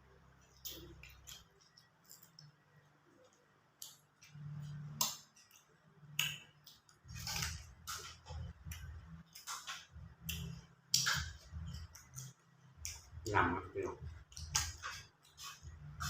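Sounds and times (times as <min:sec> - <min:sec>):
chewing smacks and clicks: 0:00.4 - 0:16.0.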